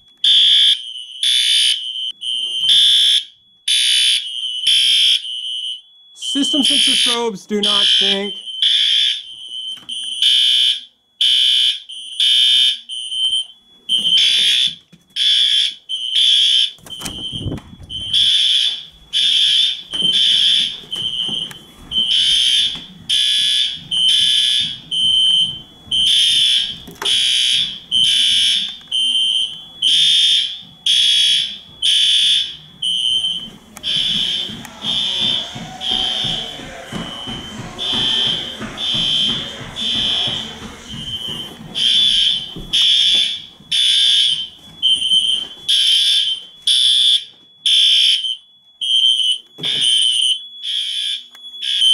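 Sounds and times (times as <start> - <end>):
buzzy fire alarm horns: 0.0 - 51.9
shrill fire alarm beeping: 0.0 - 51.9.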